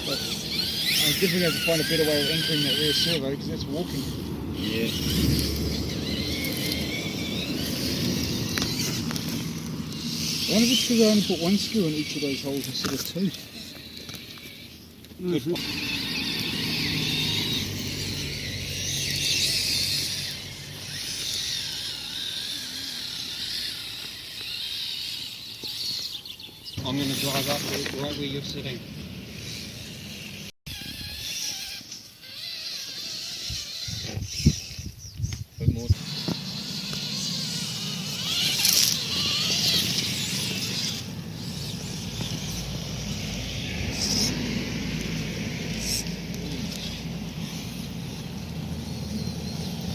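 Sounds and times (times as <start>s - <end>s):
electric motor whining: 0.0s - 49.9s.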